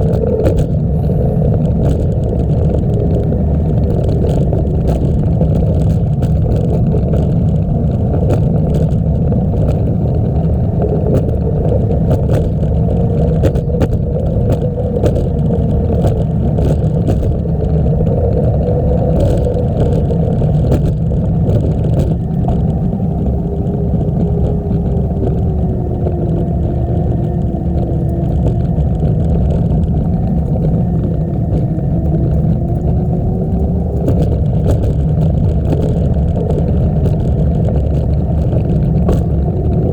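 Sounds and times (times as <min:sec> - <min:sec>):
faint wavering hum: 0:00.0 - 0:39.9
light clicks and rattles: 0:00.0 - 0:39.9
tyres rumbling on trail: 0:00.0 - 0:39.9
wind rushing on microphone: 0:00.0 - 0:39.9.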